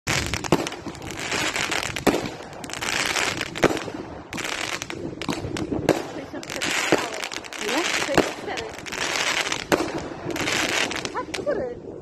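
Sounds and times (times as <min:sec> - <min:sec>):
fireworks crackling pops: 0:00.0 - 0:11.6
loud firework bangs: 0:00.1 - 0:11.5.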